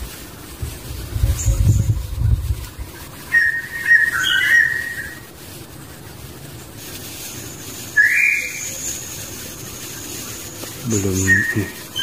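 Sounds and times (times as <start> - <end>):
thin high steady tone: 1.3 - 12.0.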